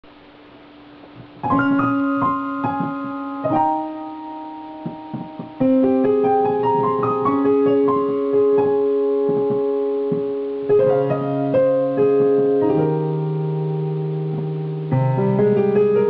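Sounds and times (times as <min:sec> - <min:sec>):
slow piano melody: 0:00.1 - 0:16.0.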